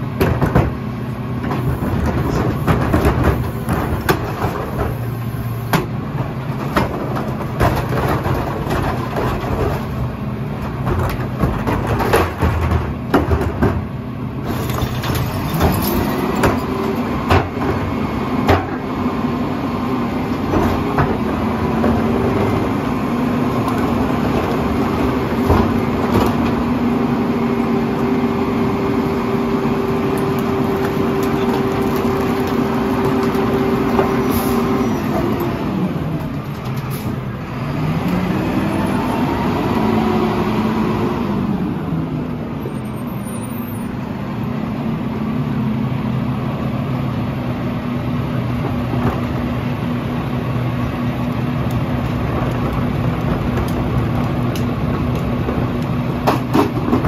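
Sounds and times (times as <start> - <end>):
garbage truck engine running: 0.0 - 57.0.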